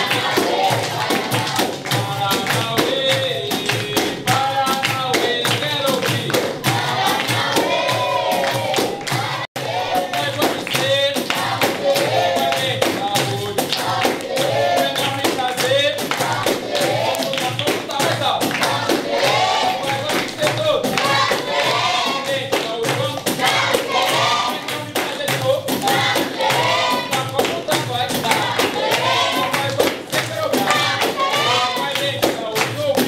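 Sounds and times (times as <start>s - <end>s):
group singing: 0.0s - 33.0s
hand percussion beat: 0.0s - 33.0s
tambourine strikes: 0.0s - 33.0s.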